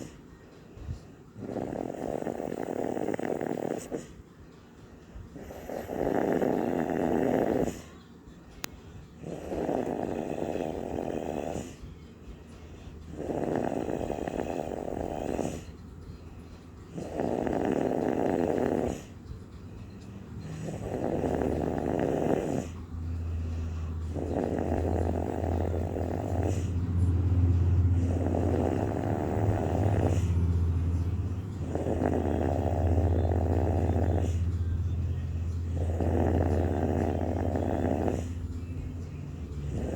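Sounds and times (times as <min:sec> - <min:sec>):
person snoring: 0:00.0 - 0:00.3, 0:01.4 - 0:04.2, 0:05.3 - 0:08.0, 0:09.2 - 0:11.9, 0:12.5 - 0:15.9, 0:16.8 - 0:39.9
steady low hum: 0:00.0 - 0:39.9.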